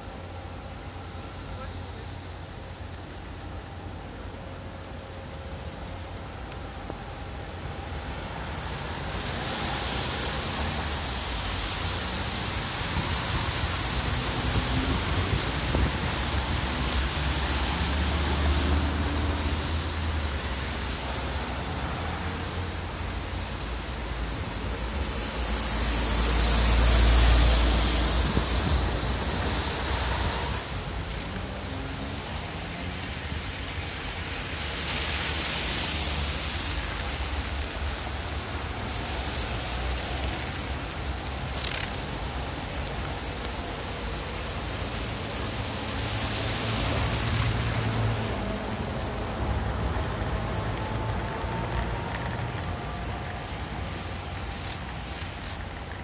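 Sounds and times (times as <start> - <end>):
low traffic rumble: 0.0 - 56.0
tyres hissing on wet asphalt: 0.0 - 56.0.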